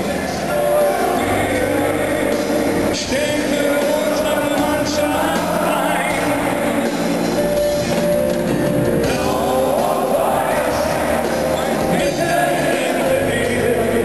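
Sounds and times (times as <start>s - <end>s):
person singing: 0.0s - 7.6s, 9.0s - 14.0s
steady music backing: 0.0s - 14.0s.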